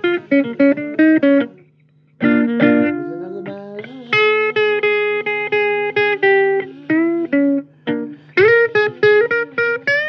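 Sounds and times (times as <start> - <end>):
guitar playing notes: 0.0 - 10.0.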